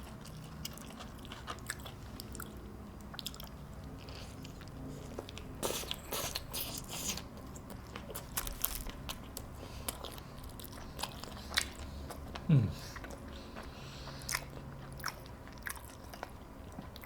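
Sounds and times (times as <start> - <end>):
person chewing burger: 0.0 - 17.0.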